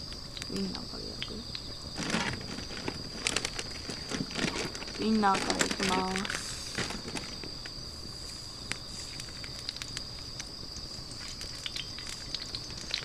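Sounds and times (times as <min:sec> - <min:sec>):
faint hiss: 0:00.0 - 0:13.0
steady high-pitched whine: 0:00.0 - 0:13.0
wood fire crackling and popping: 0:00.0 - 0:13.0.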